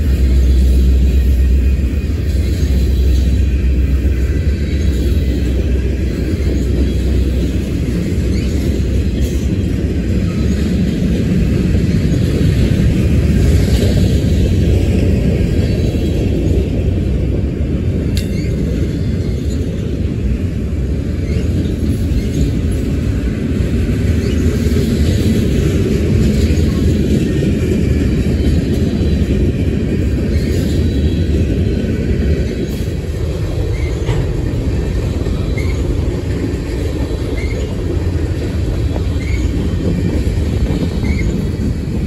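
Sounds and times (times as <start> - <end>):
freight train wheels rumbling on rails: 0.0 - 42.0.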